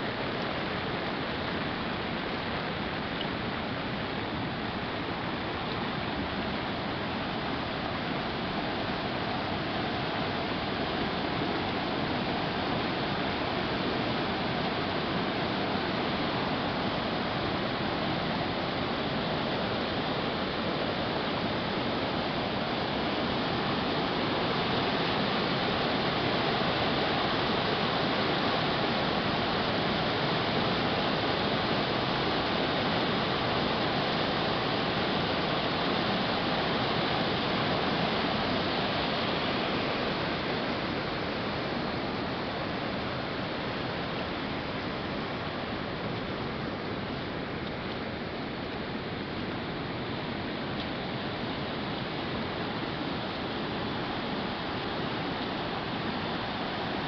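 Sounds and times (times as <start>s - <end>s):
stream rushing over rapids: 0.0s - 57.0s.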